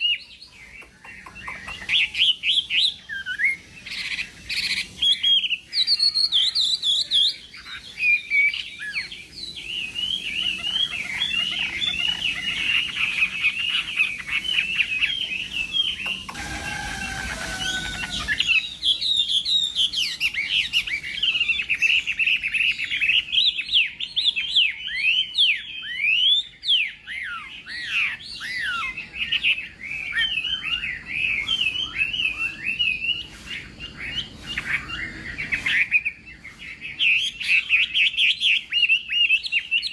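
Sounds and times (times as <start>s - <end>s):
bird singing whistled trills: 0.0s - 39.9s.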